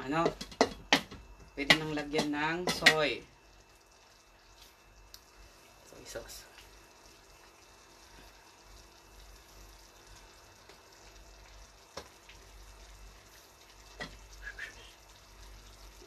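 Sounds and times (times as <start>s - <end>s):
food sizzling faintly in a pan: 0.0s - 16.0s.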